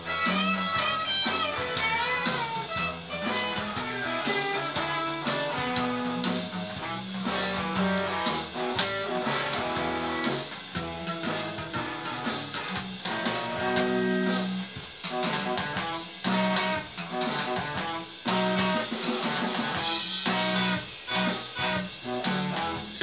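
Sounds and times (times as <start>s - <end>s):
electric bass guitar plucked notes: 0.0s - 18.8s, 19.8s - 23.0s.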